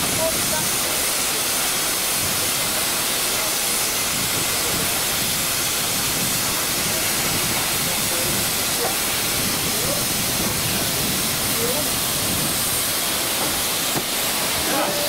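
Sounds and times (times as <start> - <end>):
steam hissing from locomotive: 0.0 - 15.0.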